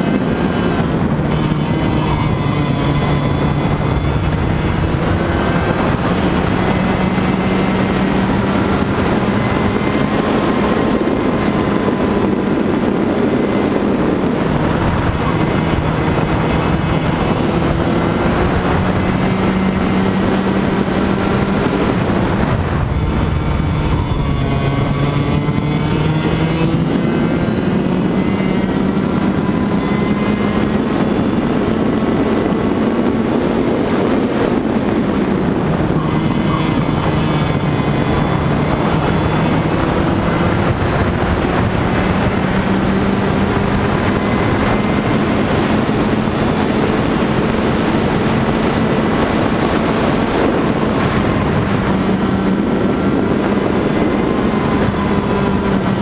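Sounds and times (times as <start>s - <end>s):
two-stroke kart engine revving: 0.0s - 56.0s.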